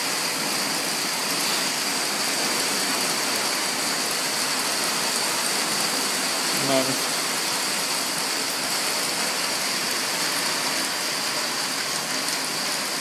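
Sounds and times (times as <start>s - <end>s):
heavy rain and hail on tiles: 0.0s - 13.0s
water running off roof: 0.0s - 13.0s.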